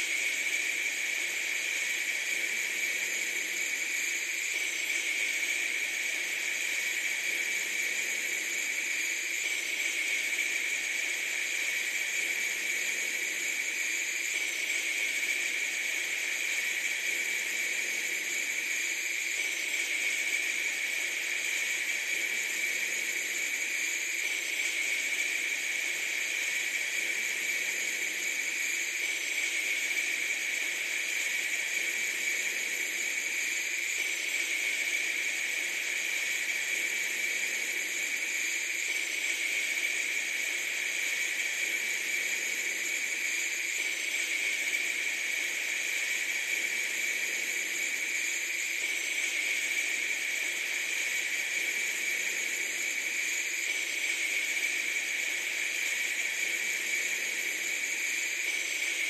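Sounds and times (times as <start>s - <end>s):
steady high hiss: 0.0s - 59.0s.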